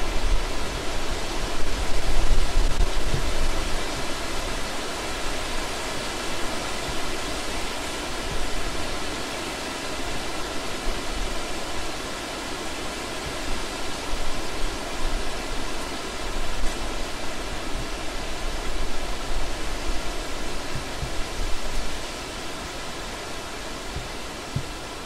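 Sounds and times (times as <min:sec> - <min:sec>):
stream water flowing: 0:00.0 - 0:25.0.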